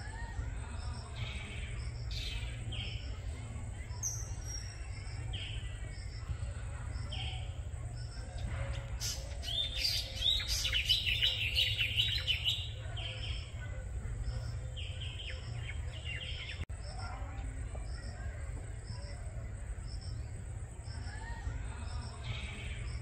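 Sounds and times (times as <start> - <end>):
rapid chattering birdsong: 0.0 - 23.0.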